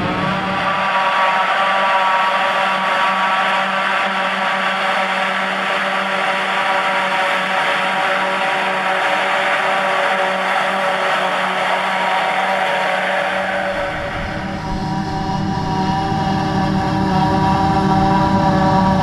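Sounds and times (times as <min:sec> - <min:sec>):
machinery whine: 0:00.0 - 0:19.0.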